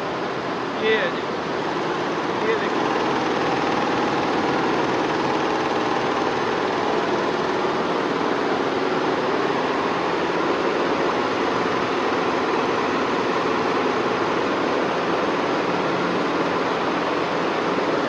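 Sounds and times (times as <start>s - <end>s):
embroidery machines stitching: 1.0s - 17.8s.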